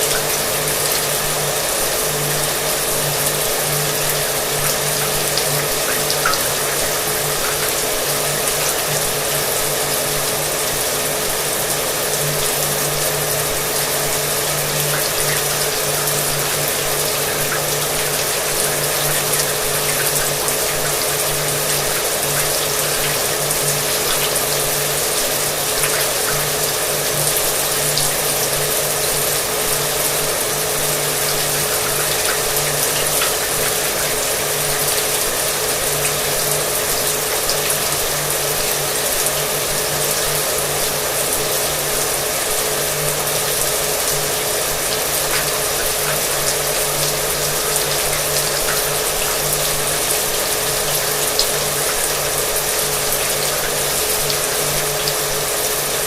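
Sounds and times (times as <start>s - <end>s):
shower water spraying: 0.0s - 56.0s.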